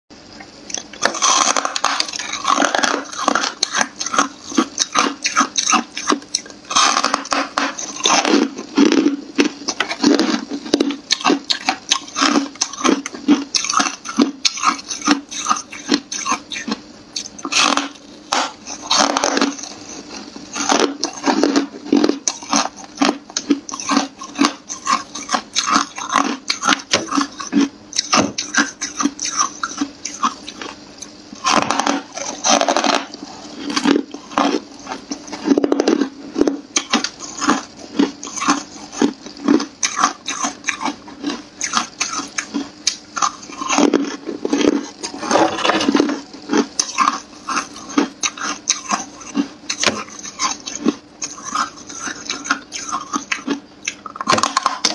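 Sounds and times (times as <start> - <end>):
person crunching ice: 1.0 - 30.7, 31.4 - 53.6.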